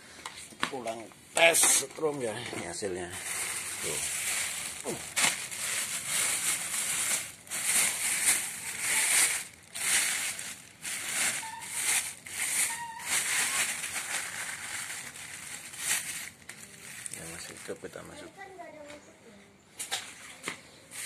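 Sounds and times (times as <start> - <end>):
crinkly rustling and crackling: 0.4 - 18.9.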